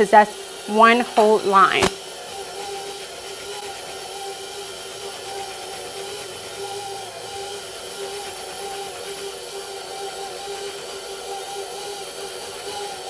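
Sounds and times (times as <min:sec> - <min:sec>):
stand mixer motor hum: 0:00.0 - 0:13.0.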